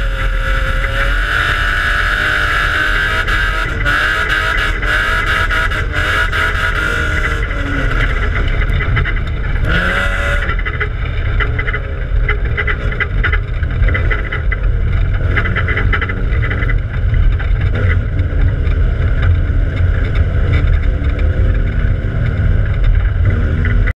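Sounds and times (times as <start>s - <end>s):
race car engine revving: 0.0s - 23.9s.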